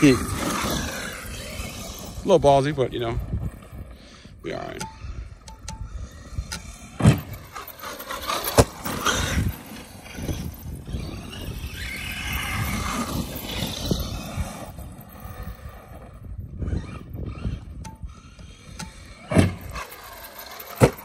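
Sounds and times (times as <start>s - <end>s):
rc truck motor whining: 0.0s - 21.0s.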